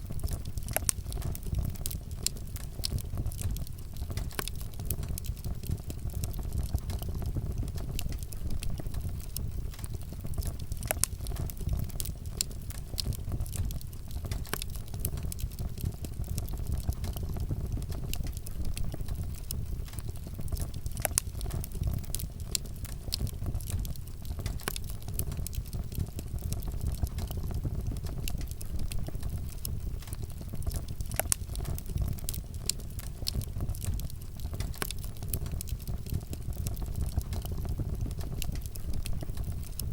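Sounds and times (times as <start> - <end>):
burning wood crackling and popping: 0.0 - 39.9
campfire low rumble: 0.0 - 39.9.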